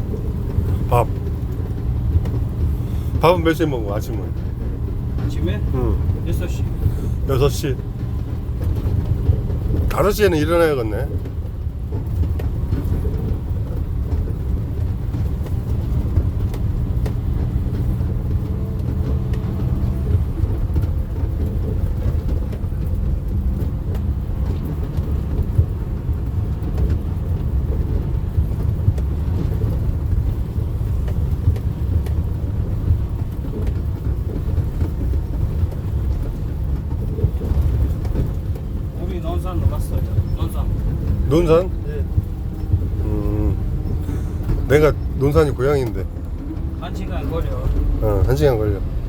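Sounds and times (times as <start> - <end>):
vehicle engine and road noise: 0.0 - 49.0.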